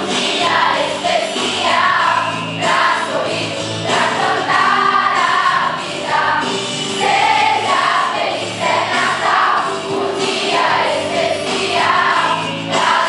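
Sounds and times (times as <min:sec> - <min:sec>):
youth choir singing: 0:00.0 - 0:13.0.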